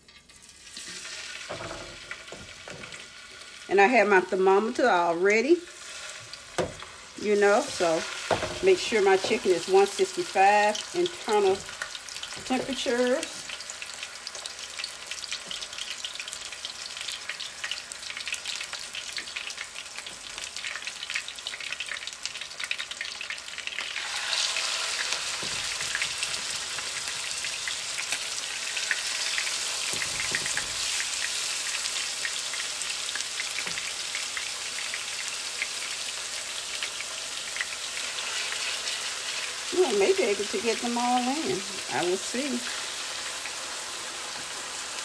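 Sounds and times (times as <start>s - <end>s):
chicken sizzling in oil: 0.0s - 45.0s.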